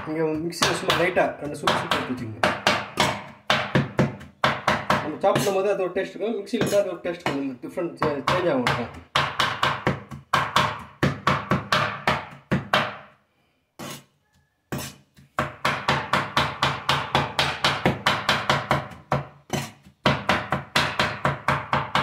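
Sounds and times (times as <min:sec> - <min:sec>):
knife chopping on wooden board: 0:00.0 - 0:05.6, 0:06.6 - 0:13.1, 0:14.7 - 0:22.0.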